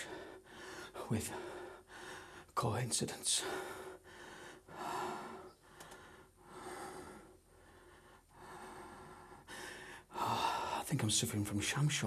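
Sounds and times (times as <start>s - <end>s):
person breathing: 0.0s - 2.6s, 3.4s - 10.8s.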